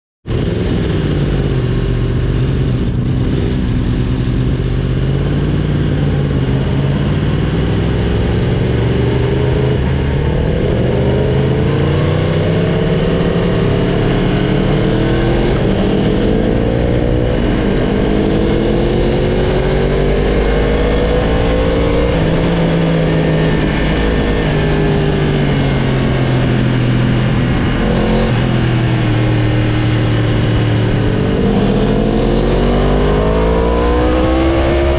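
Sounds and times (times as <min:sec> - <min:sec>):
motorbike engine revving: 0:00.3 - 0:34.9.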